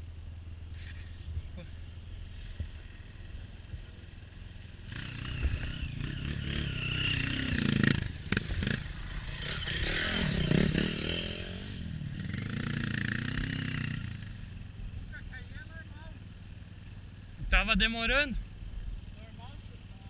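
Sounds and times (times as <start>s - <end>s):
motorcycle engine revving: 0.6s - 20.0s.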